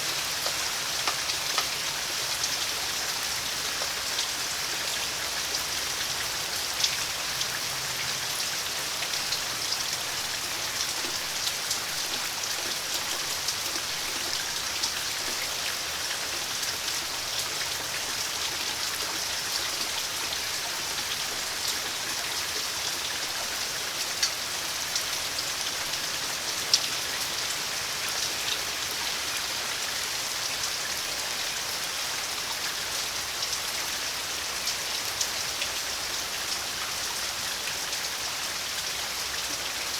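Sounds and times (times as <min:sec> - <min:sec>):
raindrops striking close by: 0:00.0 - 0:39.9
steady rain hiss: 0:00.0 - 0:39.9.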